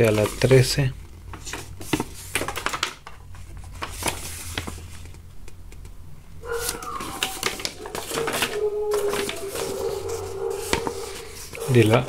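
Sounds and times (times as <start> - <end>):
paper leaflet rustling: 0.0 - 5.2, 6.4 - 12.0.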